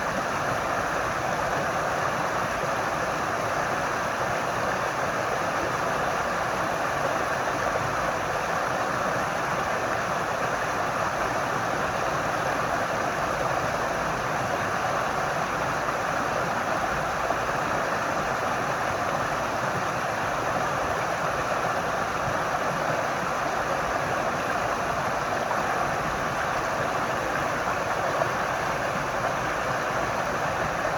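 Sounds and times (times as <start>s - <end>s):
water rushing: 0.0s - 30.9s.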